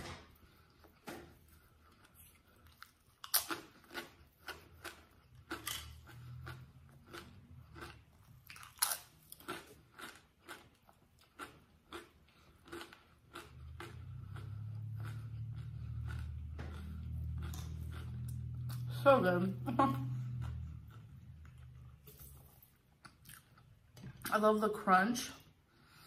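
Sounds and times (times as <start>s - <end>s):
low steady hum: 0.0s - 26.0s
chewing crunchy crackers: 0.2s - 19.0s, 19.6s - 24.3s.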